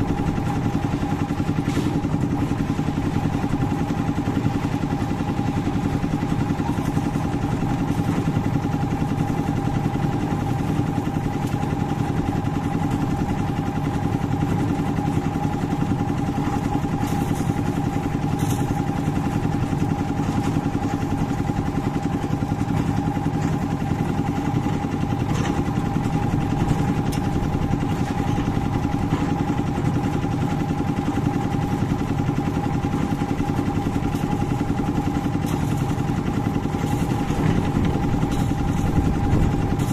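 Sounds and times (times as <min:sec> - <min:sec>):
concrete mixer engine running: 0:00.0 - 0:39.9.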